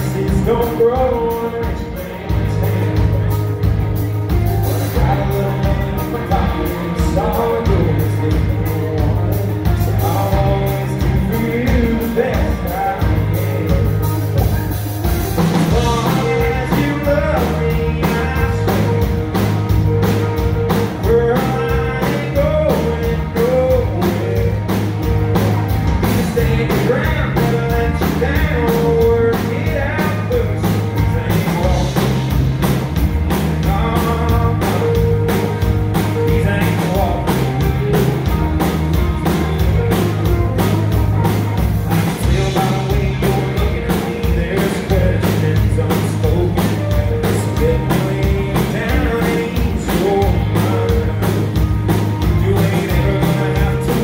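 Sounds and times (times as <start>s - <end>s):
man singing: 0.0s - 14.7s, 15.4s - 54.0s
drum kit beat: 0.0s - 54.0s
electric bass: 0.0s - 54.0s
electric guitars: 0.0s - 54.0s.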